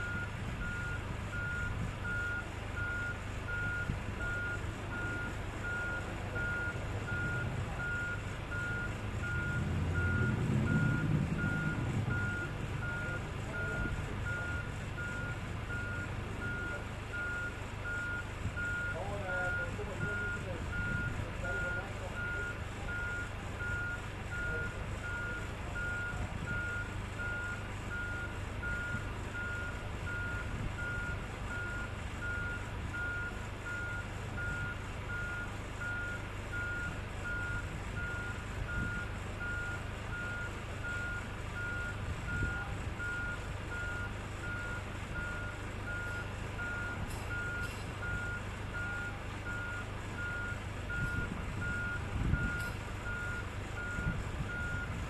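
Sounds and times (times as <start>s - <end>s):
high warning beeps: 0.0s - 55.0s.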